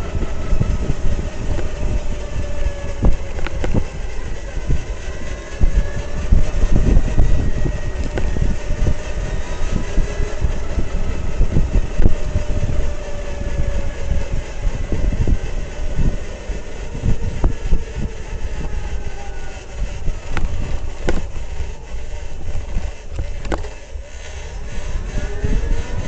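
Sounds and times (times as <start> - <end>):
faint motor whine: 0.0 - 26.0
tricycle low rumble: 0.0 - 26.0.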